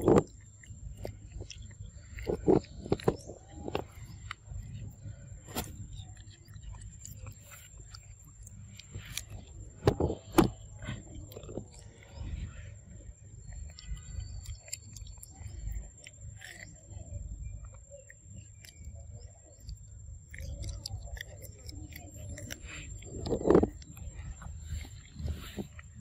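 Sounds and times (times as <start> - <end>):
monkeys chewing corn: 0.0 - 26.0
small crunches and clicks: 0.0 - 26.0.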